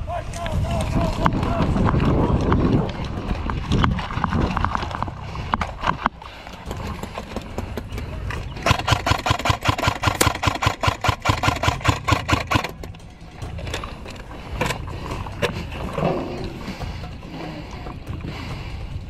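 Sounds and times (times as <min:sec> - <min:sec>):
field ambience: 0:00.0 - 0:19.0.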